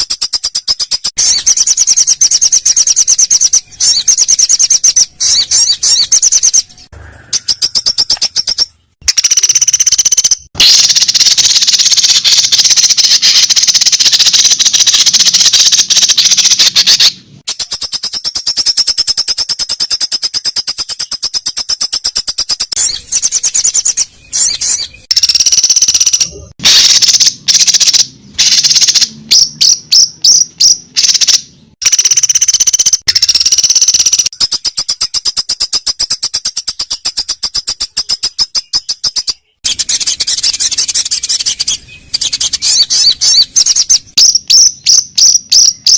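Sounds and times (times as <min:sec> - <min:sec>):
songbird rattling trill: 0:00.0 - 0:45.9.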